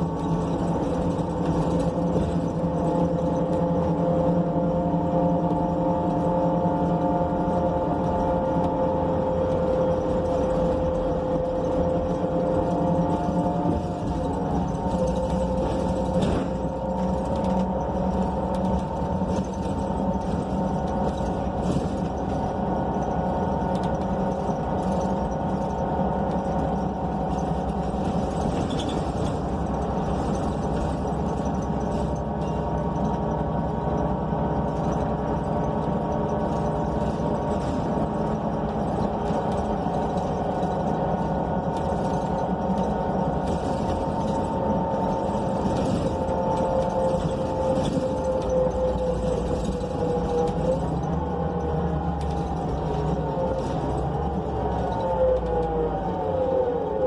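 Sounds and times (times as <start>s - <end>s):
bus engine running: 0.0s - 57.0s
constant engine tones: 0.0s - 57.0s.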